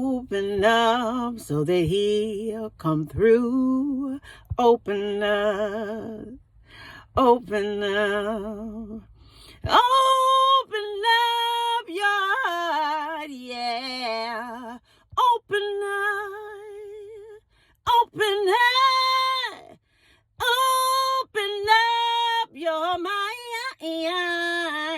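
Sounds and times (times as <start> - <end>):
woman singing unaccompanied: 0.0 - 19.8, 20.4 - 24.9.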